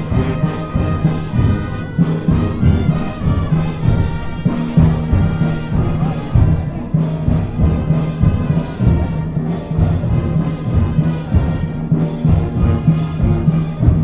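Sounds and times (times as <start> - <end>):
low brass sustained notes: 0.0 - 14.0
steady drum beat: 0.0 - 14.0.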